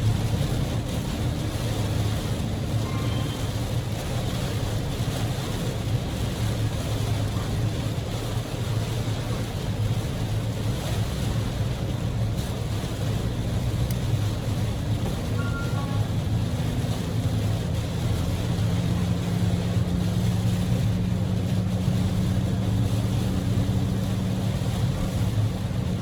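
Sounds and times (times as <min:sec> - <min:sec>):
heavy rain beating on car: 0:00.0 - 0:26.0
tyres hissing on wet road: 0:00.0 - 0:26.0.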